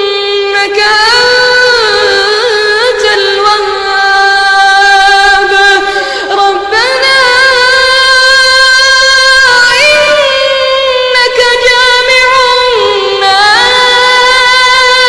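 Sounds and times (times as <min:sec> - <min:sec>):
high voice singing unaccompanied: 0:00.0 - 0:15.0.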